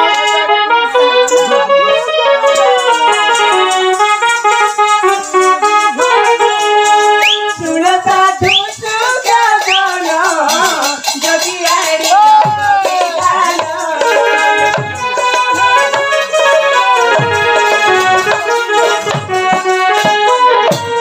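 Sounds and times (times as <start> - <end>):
reedy keyboard melody: 0.0 - 11.8, 12.4 - 21.0
hand-beaten barrel drum: 1.1 - 21.0.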